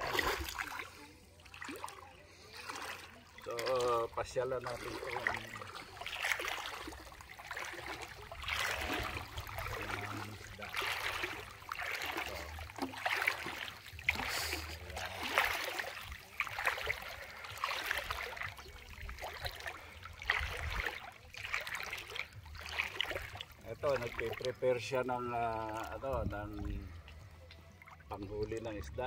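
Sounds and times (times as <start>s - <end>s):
seawater sloshing and lapping: 0.0s - 29.0s.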